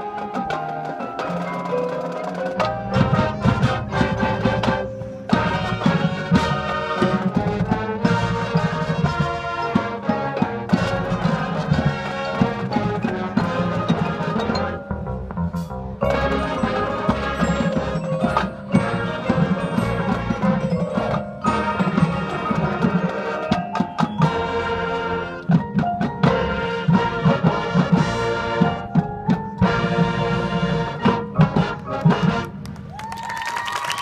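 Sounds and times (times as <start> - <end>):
marching band playing: 0.0 - 34.0.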